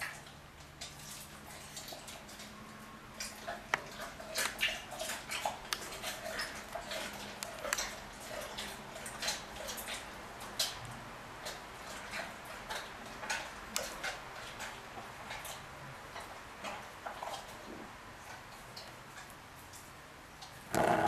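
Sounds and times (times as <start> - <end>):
tiger chewing meat: 0.0 - 21.0.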